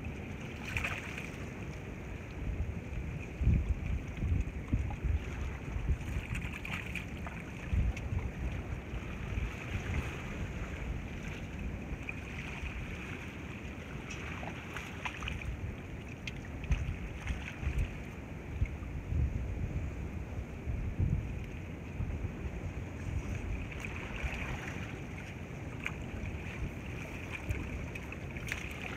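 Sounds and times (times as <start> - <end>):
open-air rushing noise: 0.0 - 28.9
wind buffeting microphone: 2.4 - 14.6, 15.3 - 28.9.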